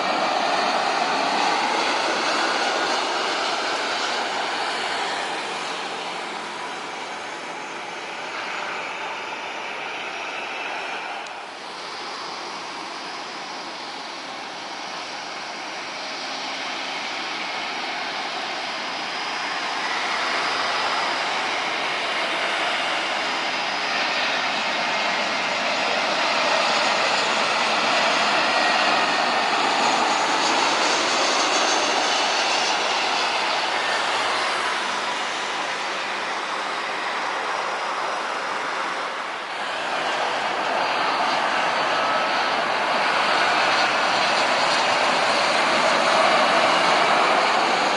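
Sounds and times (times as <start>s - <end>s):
faint high engine whine: 0.0s - 47.9s
jet airliner engine noise: 0.0s - 47.9s.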